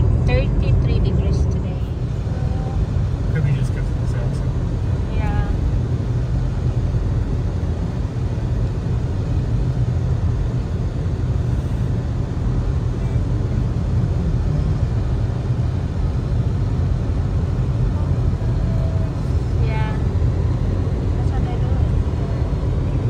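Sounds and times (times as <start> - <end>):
car cabin road and engine hum: 0.0 - 23.0.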